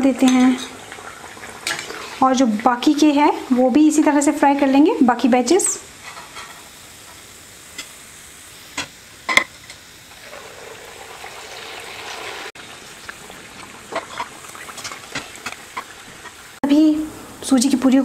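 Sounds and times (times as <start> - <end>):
puris sizzling in hot oil: 0.0 - 16.8.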